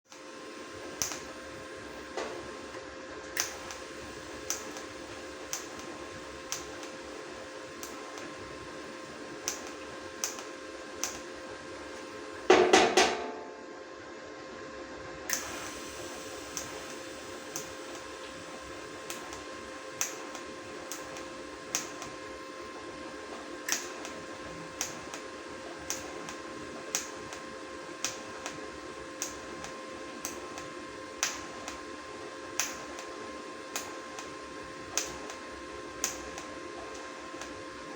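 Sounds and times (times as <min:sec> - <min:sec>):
welding arc buzzing: 0:00.1 - 0:13.1, 0:15.3 - 0:37.9.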